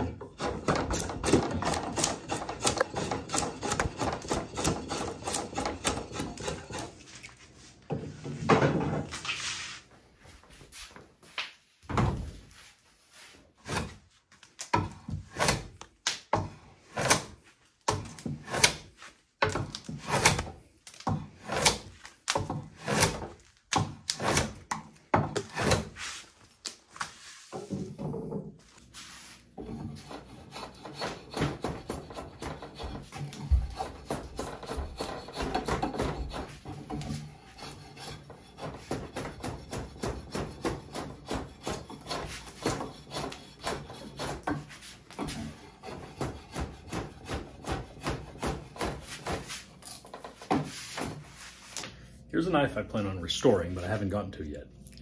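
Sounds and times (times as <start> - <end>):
drawknife shaving wood: 0.1 - 7.6, 13.2 - 15.9, 16.8 - 27.6, 28.8 - 52.0.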